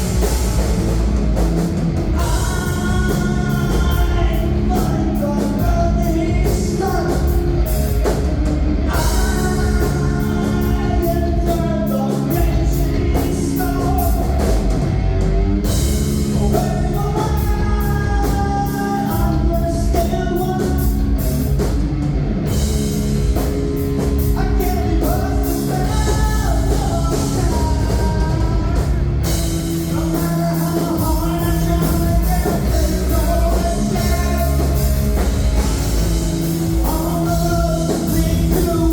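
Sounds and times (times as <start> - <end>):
live rock band: 0.0 - 38.9
person singing: 2.1 - 7.9, 8.8 - 15.2, 16.2 - 21.2, 24.2 - 38.9.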